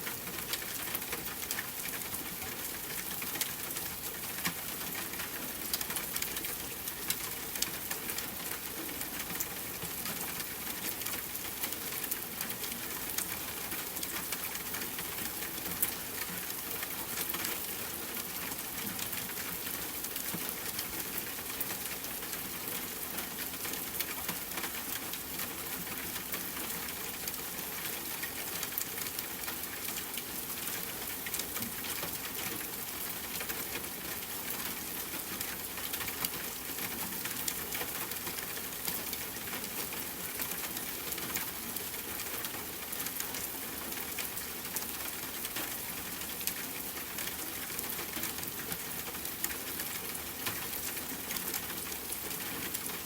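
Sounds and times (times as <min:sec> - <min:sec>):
rain pattering on a tent: 0:00.0 - 0:53.0.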